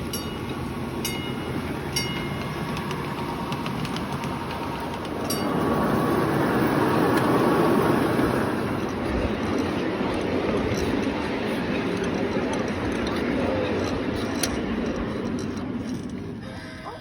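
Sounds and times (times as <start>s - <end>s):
sharp metallic clinks: 0.0s - 17.0s
train rumbling on rails: 0.0s - 17.0s.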